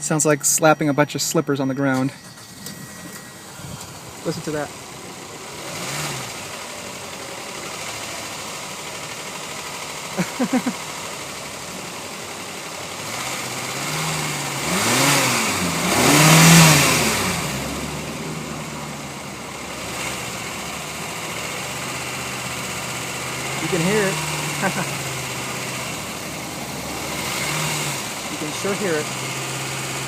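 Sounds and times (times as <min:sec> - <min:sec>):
car engine revving: 0:00.0 - 0:30.0
car engine with lifters tapping: 0:00.0 - 0:30.0.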